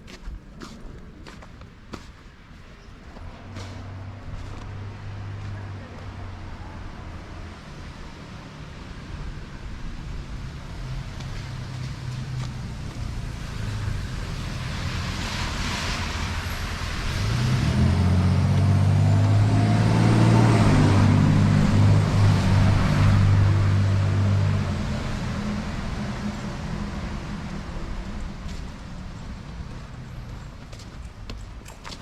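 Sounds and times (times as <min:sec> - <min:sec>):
vehicles passing with tyre hiss: 0:00.1 - 0:32.0
vehicle engine humming close by: 0:03.1 - 0:32.0.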